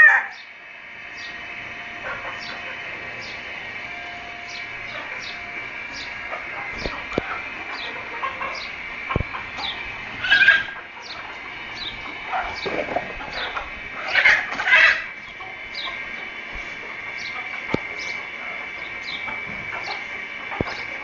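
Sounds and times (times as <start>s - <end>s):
chickens squawking: 0.0s - 21.0s.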